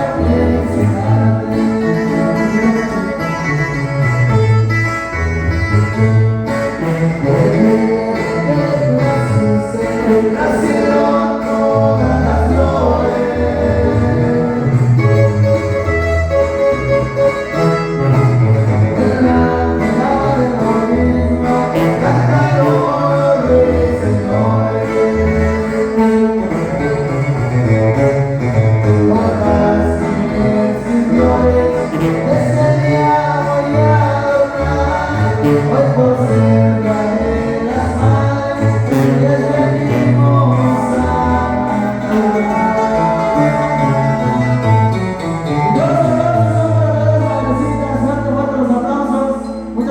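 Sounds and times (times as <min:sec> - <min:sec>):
live band music: 0:00.0 - 0:49.9
tuba bass line: 0:00.0 - 0:49.9.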